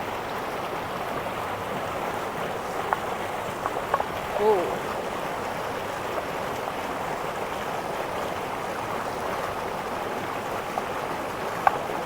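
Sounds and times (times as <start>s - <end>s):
river rushing: 0.6s - 12.0s.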